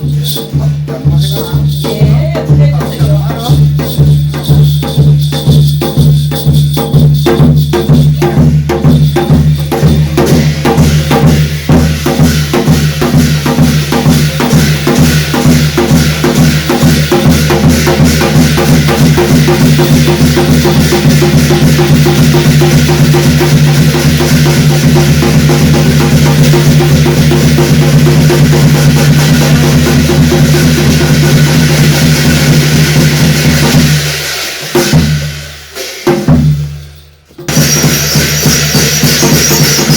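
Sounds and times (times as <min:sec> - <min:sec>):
fast drumming: 0:00.0 - 0:39.9
metallic cymbal crashes: 0:03.0 - 0:39.9.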